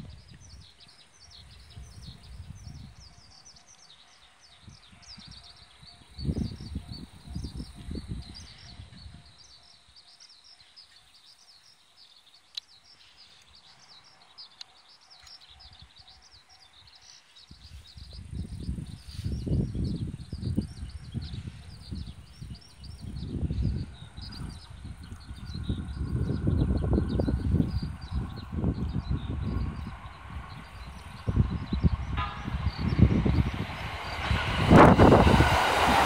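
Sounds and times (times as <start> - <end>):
wind buffeting microphone: 0.0 - 10.6, 13.6 - 36.0.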